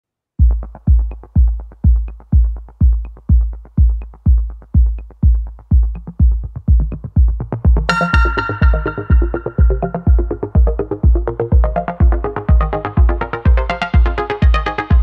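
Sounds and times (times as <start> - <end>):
electronic music with drum machine: 0.4 - 15.0.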